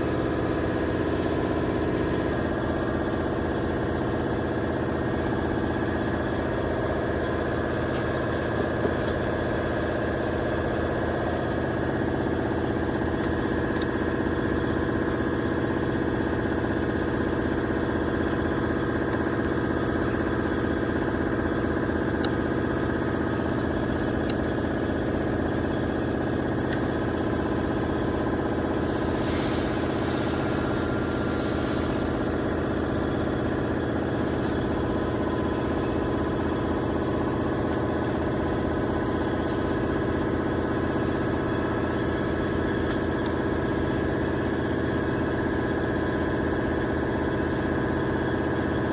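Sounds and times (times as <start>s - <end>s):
car engine idling: 0.0s - 44.2s.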